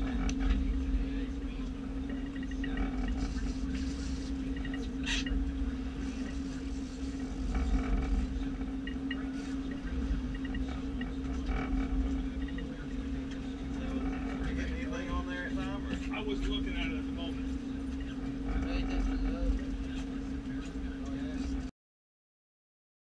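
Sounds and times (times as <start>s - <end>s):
boat engine droning: 0.0s - 21.7s.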